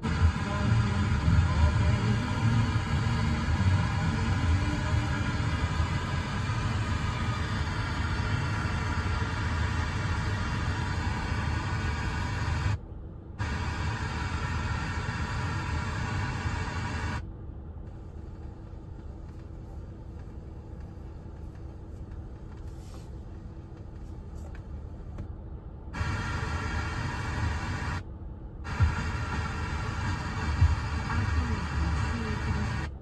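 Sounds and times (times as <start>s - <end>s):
noisy rumbling radio signal: 0.0s - 33.0s.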